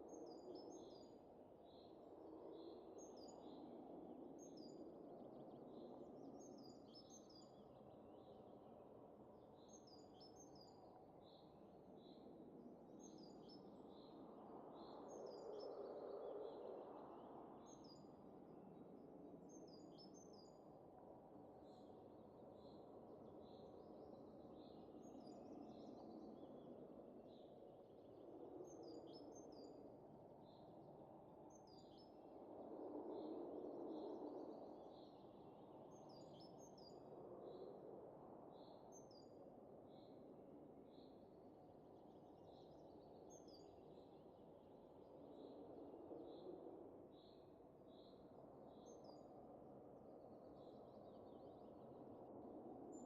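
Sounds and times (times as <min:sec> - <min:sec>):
winter wind: 0:00.0 - 0:53.0.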